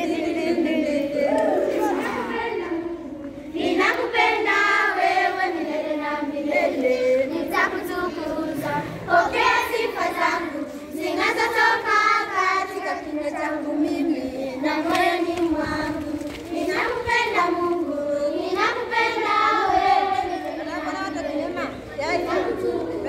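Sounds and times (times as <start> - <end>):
children singing together: 0.0 - 23.0.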